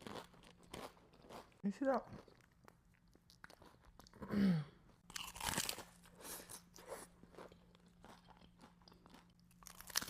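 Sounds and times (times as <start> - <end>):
crunching and chewing food: 0.0 - 4.3, 4.9 - 10.0.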